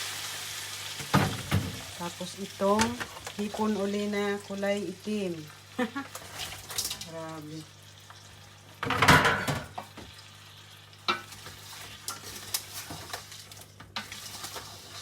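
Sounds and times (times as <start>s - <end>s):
shrimp sizzling in a pan: 0.0s - 15.0s.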